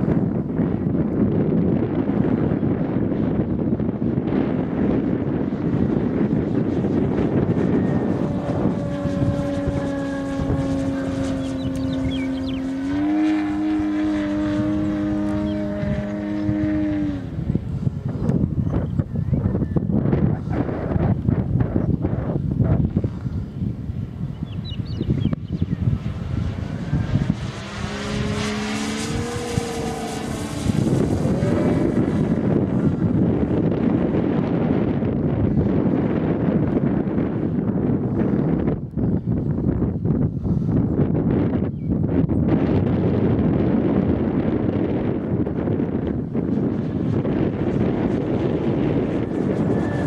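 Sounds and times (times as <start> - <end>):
model plane engine running: 0.0 - 50.0.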